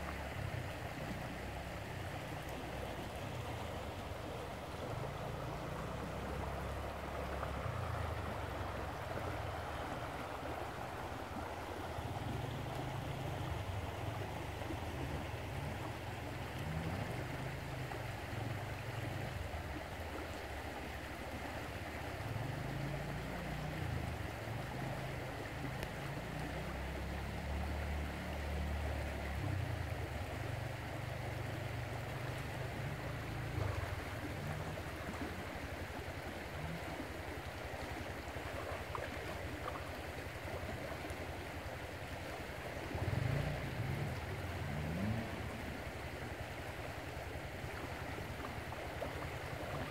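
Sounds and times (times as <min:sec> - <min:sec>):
creek water rippling: 0:00.0 - 0:49.9
low uneven rumble: 0:00.0 - 0:49.9.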